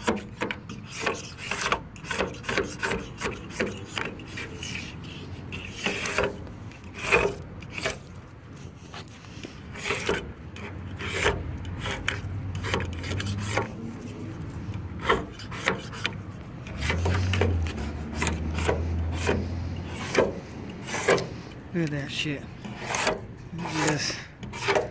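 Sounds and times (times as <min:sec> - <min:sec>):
razor blade scraping paint: 0:00.0 - 0:21.6, 0:22.6 - 0:24.9.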